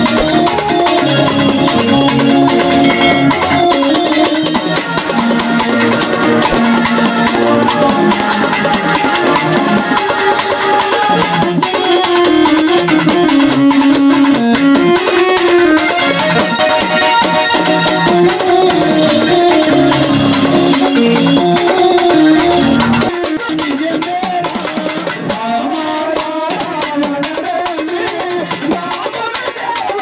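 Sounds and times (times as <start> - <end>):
folk melody line: 0.0 - 29.6
barrel drum beaten fast: 0.0 - 30.0.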